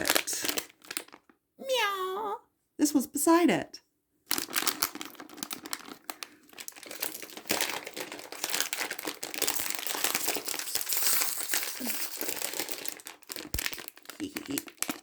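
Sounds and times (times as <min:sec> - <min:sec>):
toy packaging crinkling: 0:00.0 - 0:01.3, 0:04.3 - 0:15.0.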